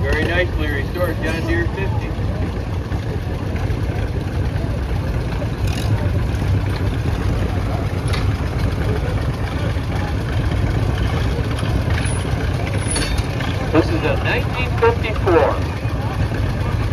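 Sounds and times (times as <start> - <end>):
two-cylinder engine running: 0.0 - 16.9.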